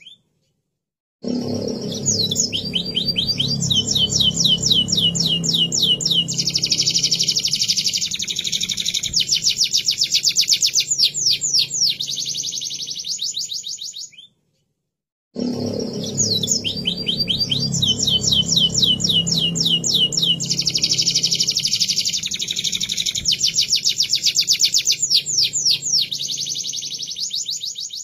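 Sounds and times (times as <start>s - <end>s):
canary singing trills: 1.6s - 14.3s, 15.7s - 28.0s.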